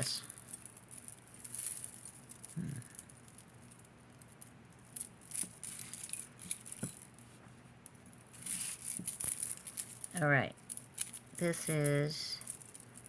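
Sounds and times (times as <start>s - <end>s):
jewelry rattling and clicking: 0.0s - 13.0s.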